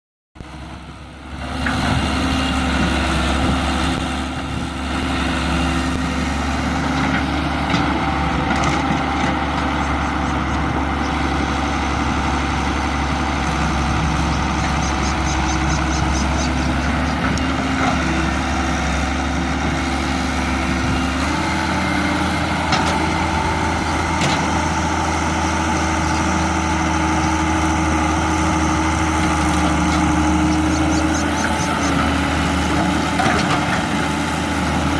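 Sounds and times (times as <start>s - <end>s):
excavator diesel engine running: 0.4s - 34.9s.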